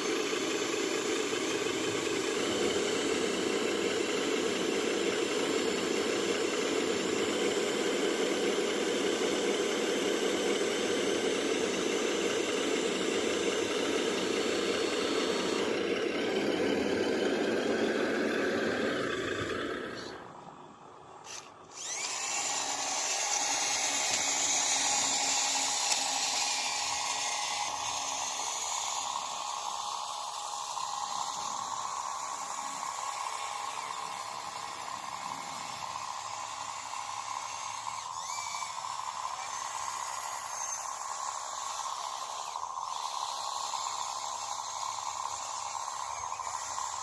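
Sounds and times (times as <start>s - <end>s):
earthmoving machinery whine: 0.0s - 47.0s.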